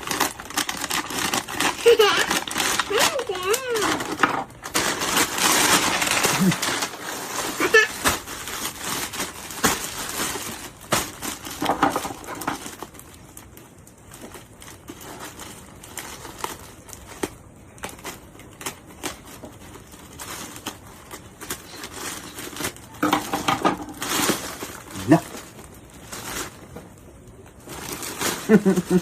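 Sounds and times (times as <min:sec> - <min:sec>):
packaging crinkling: 0:00.0 - 0:29.0.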